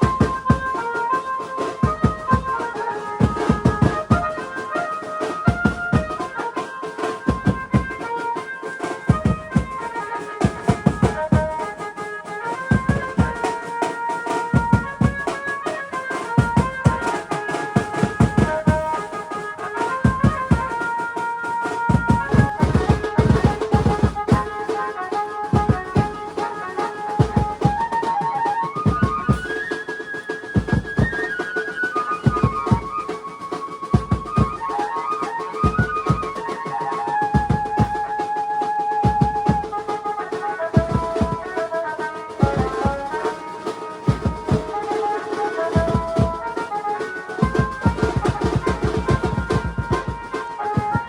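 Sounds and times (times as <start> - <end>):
rhythmic drum beat: 0.0 - 51.0.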